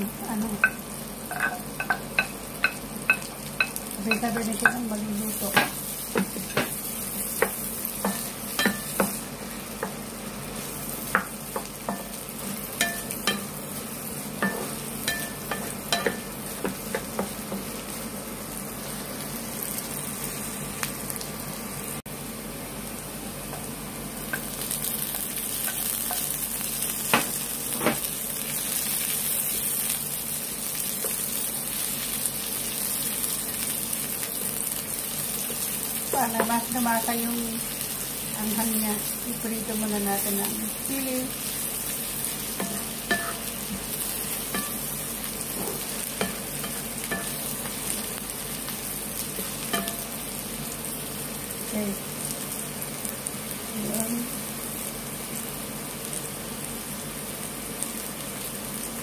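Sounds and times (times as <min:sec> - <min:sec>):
onions sizzling in oil: 0:00.0 - 0:59.0.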